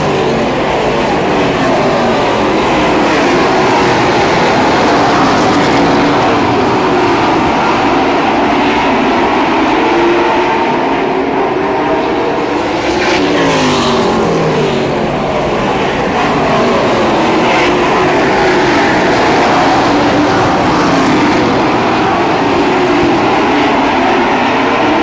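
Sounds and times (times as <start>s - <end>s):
cars passing by: 0.0s - 25.0s
stock car engines racing: 0.0s - 25.0s.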